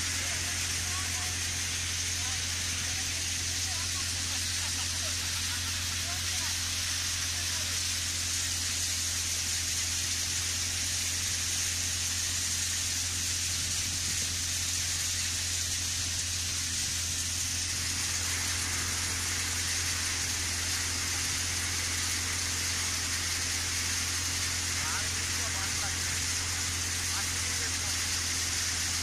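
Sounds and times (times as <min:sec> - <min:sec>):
steady hiss: 0:00.0 - 0:29.0
threshing machine low drone: 0:00.0 - 0:29.0.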